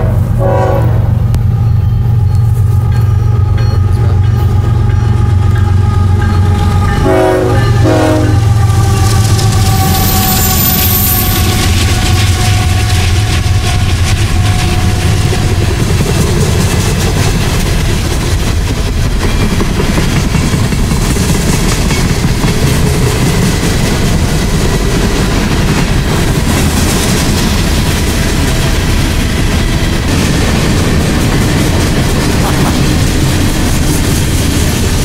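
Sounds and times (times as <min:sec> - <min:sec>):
freight train rolling past: 0:00.0 - 0:35.0.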